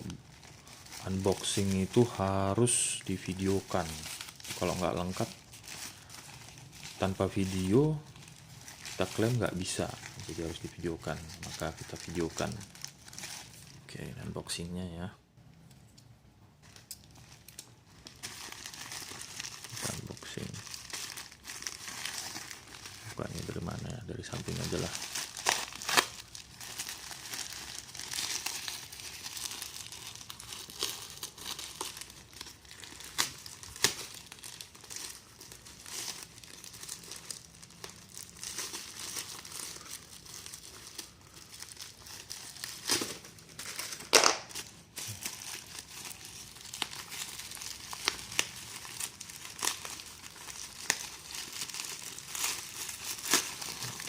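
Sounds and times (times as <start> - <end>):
packaging being torn and crinkled: 0.0 - 13.9, 16.7 - 54.0.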